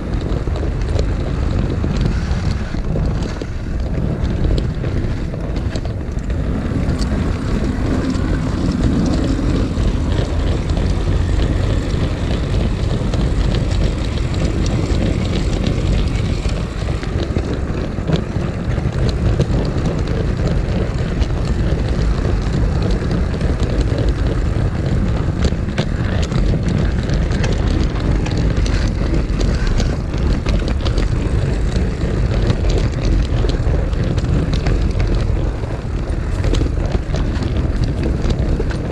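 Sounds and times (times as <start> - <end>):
model train wheels rumbling on rails: 0.0 - 38.9
small clicks of track: 0.0 - 38.9.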